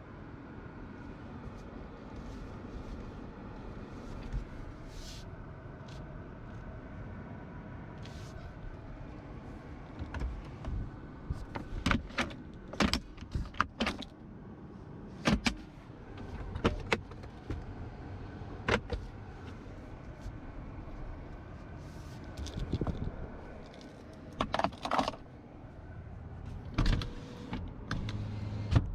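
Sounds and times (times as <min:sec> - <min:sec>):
low rumble inside car cabin: 0:00.0 - 0:28.9.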